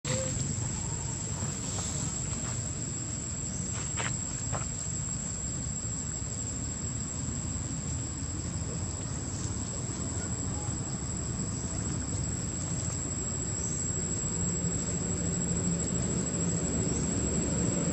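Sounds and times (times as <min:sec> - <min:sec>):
low outdoor rumble: 0:00.0 - 0:17.9.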